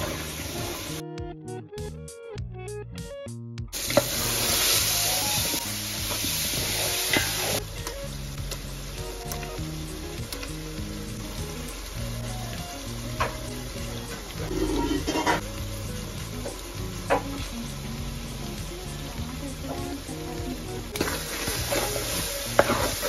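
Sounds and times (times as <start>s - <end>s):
food sizzling in hot oil: 0.0s - 1.0s, 3.8s - 23.0s
background music: 0.0s - 23.0s.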